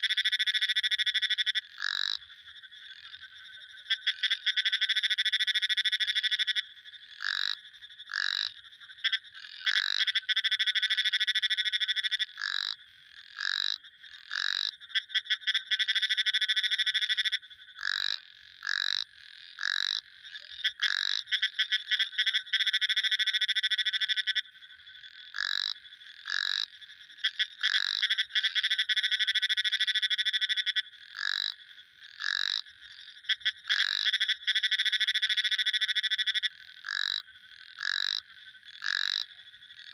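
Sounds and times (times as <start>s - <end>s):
frogs calling in trills: 0.0s - 39.9s.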